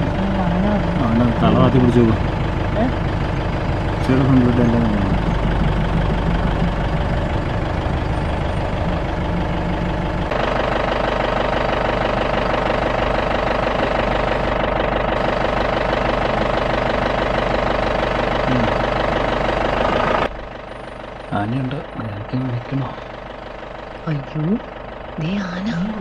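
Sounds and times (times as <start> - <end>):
jeep engine running: 0.0 - 26.0.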